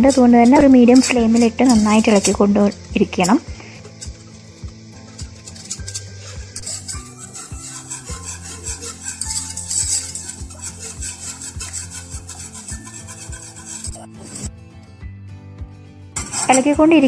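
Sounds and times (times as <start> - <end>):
whisk scraping a pot: 0.0 - 14.5.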